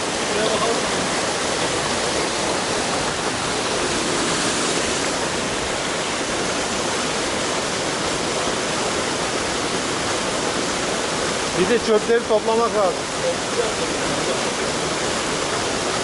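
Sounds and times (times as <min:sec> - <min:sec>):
stream running over rocks: 0:00.0 - 0:16.0
waterfall rushing: 0:00.0 - 0:16.0.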